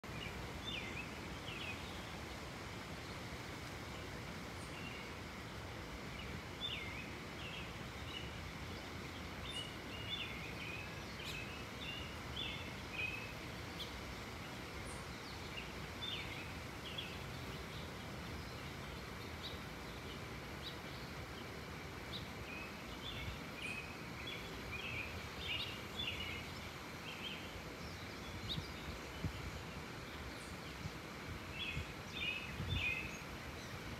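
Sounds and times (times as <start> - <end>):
low background noise: 0.0 - 33.9
small birds chirping: 0.0 - 33.9.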